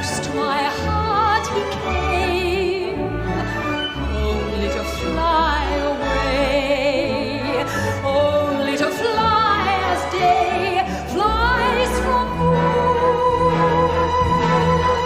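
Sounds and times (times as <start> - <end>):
orchestra with lush strings: 0.0 - 15.0.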